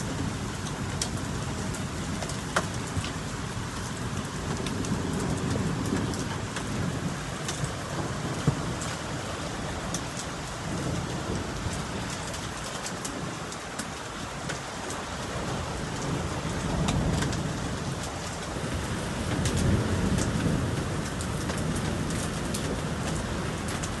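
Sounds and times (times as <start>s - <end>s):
low rumble of thunder: 0.0s - 24.0s
sharp raindrop hits: 0.0s - 24.0s
steady rain falling: 0.0s - 24.0s.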